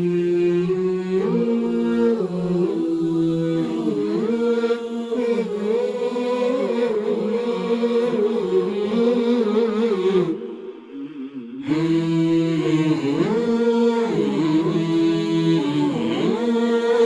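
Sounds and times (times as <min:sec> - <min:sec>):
male voices singing in harmony: 0:00.0 - 0:17.0.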